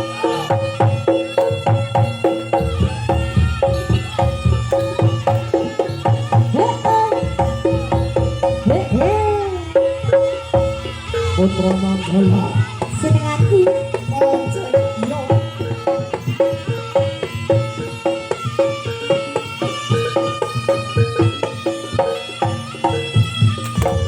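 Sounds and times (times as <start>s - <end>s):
fast hand drum strokes: 0.0s - 24.0s.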